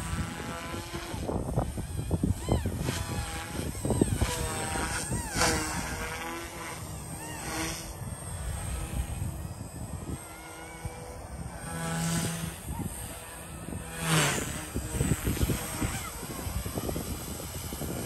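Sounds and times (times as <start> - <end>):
rc helicopter whining: 0.0 - 18.0.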